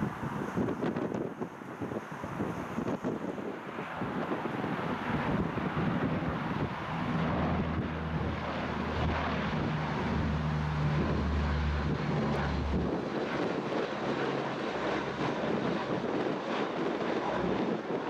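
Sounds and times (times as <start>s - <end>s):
turboprop aircraft flying past: 1.5s - 18.0s.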